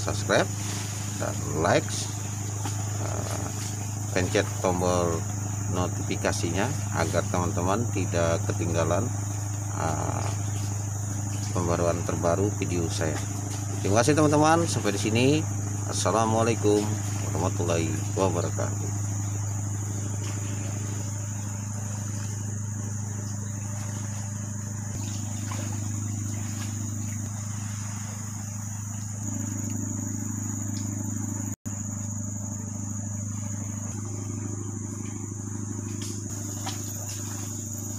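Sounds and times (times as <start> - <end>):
boat engine humming: 0.0 - 37.9
high-pitched insect drone: 0.0 - 37.9.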